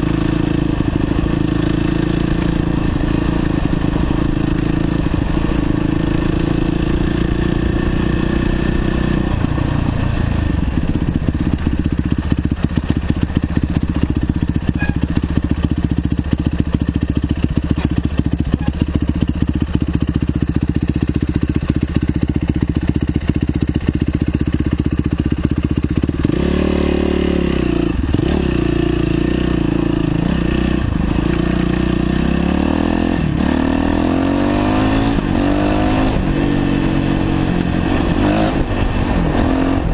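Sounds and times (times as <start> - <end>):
motorcycle engine clattering: 0.0 - 39.9.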